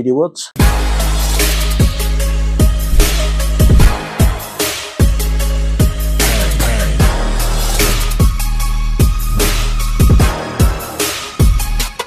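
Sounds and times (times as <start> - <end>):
electronic music with deep bass: 0.6 - 12.0.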